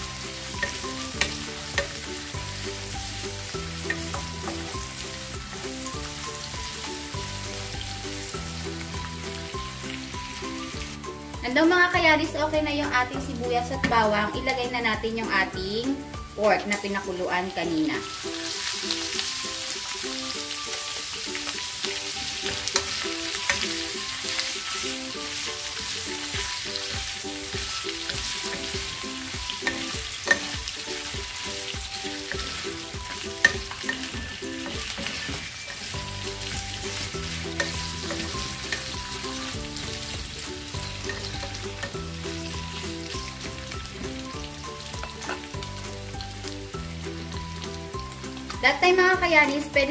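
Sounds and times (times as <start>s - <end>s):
meat sizzling in hot oil: 0.0s - 49.9s.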